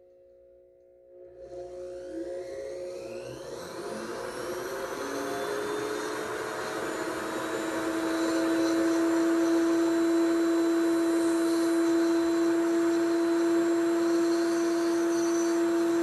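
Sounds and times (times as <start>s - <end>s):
dental drill whining and grinding: 1.4s - 16.0s.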